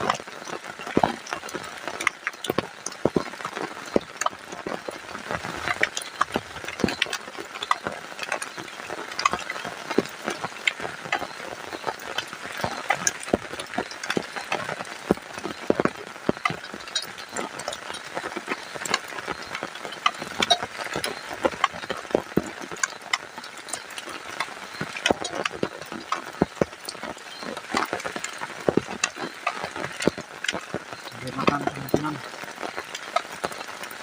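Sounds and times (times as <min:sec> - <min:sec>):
dripping taps: 0:00.0 - 0:34.0
rain pattering: 0:00.0 - 0:34.0.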